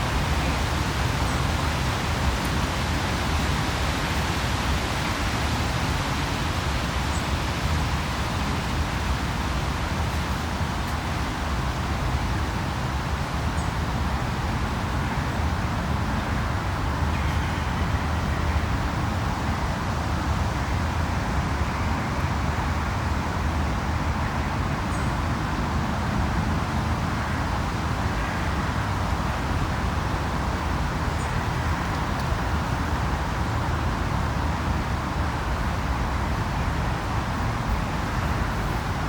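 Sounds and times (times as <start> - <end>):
distant road traffic rumble: 0.0 - 39.0.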